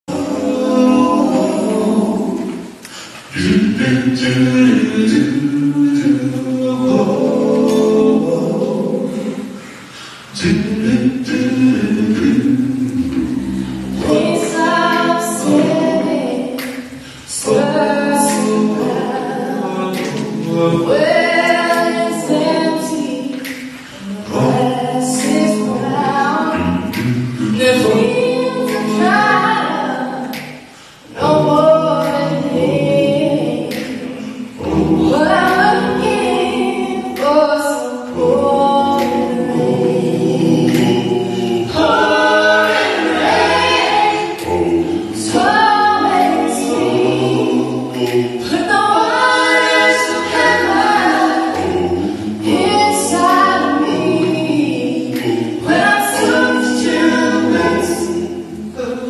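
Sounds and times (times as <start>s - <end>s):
vocal quartet singing in harmony: 0.0s - 59.0s.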